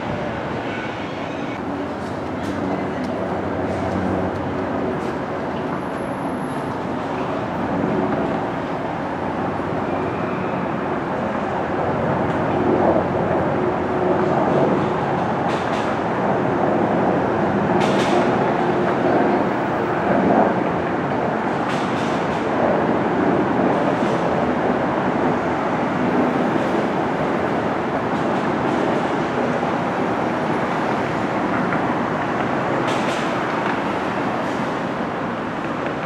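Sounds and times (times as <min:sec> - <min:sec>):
train rumbling on rails: 0:00.0 - 0:36.0.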